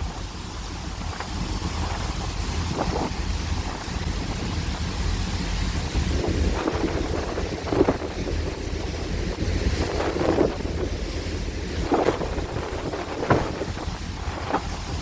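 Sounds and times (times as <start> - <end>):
sea wash: 0.0 - 15.0
ship engine low rumble: 0.0 - 15.0
wind buffeting microphone: 0.0 - 15.0.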